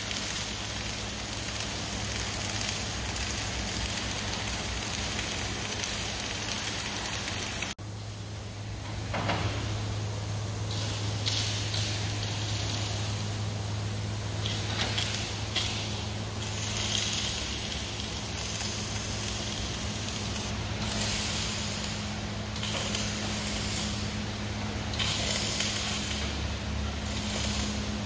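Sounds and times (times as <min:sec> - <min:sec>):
steady low hum: 0:00.0 - 0:28.0
welding arc crackling: 0:00.0 - 0:28.0.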